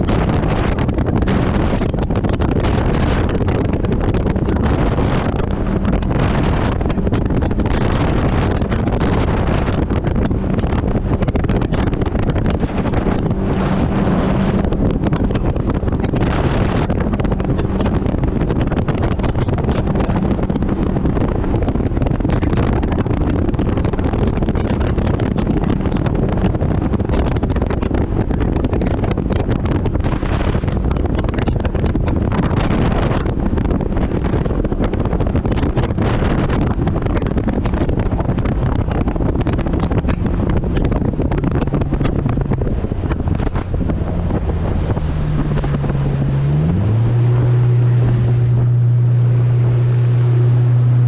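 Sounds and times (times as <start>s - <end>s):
jet boat engine running: 0.0s - 51.0s
wind buffeting microphone: 0.0s - 51.0s.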